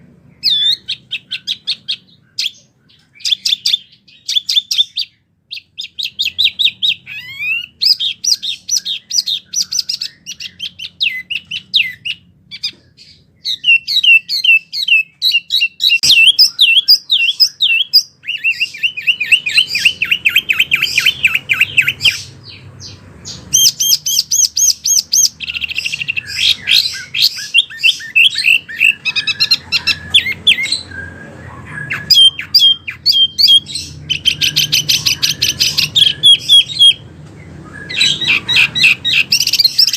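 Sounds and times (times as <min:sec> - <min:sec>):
songbird chirping and whistling: 0:00.0 - 0:39.9.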